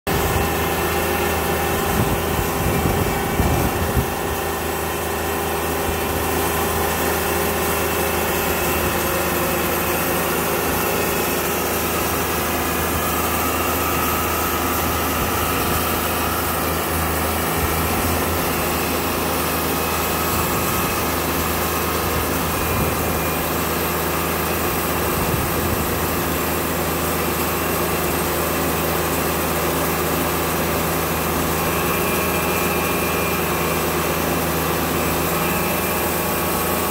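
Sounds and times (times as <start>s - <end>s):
sawmill engine running: 0.1s - 36.9s.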